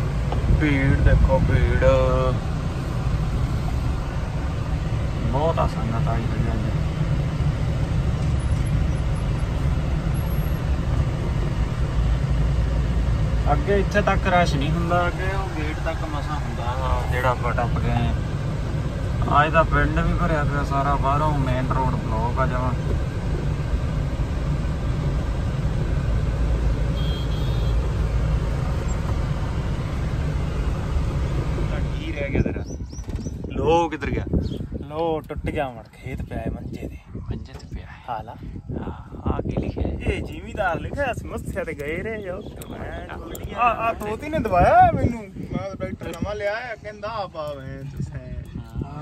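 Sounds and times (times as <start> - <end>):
car engine rumble: 0.0 - 49.0
road noise: 0.0 - 49.0
surrounding traffic: 0.0 - 49.0.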